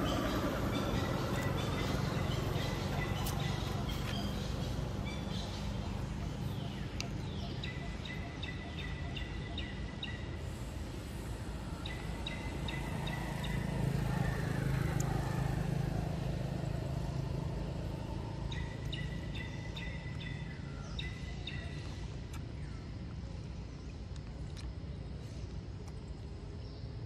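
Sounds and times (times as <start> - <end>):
vehicle passing rumble: 0.0 - 23.8
bird chirping: 0.0 - 24.3.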